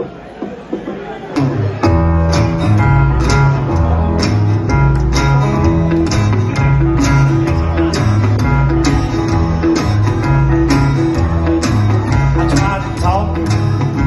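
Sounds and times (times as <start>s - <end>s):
honky-tonk band playing: 0.3s - 14.0s
bass line: 1.4s - 14.0s.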